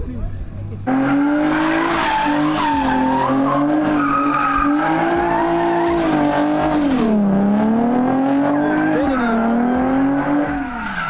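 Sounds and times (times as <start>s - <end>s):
car engine revving: 0.0s - 11.0s
tires squealing: 0.7s - 11.0s.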